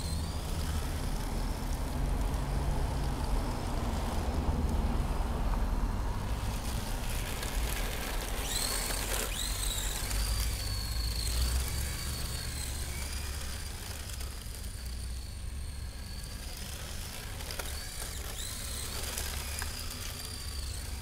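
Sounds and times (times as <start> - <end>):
rc car electric motor whining: 0.0 - 21.0.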